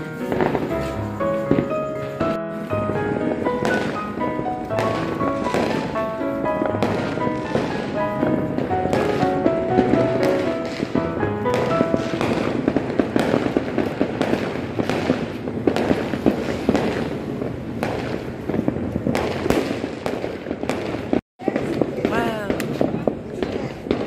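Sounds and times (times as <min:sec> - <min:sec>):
firecrackers popping: 0:00.0 - 0:24.0.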